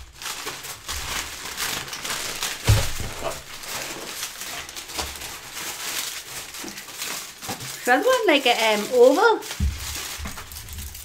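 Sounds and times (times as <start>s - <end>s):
paper and foil rustling: 0.0s - 11.0s.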